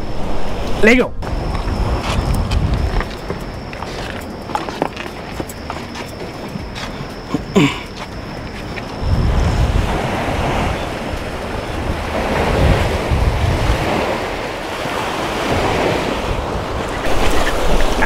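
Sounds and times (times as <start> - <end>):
sea waves: 0.0 - 18.0
wind on microphone: 0.0 - 18.0.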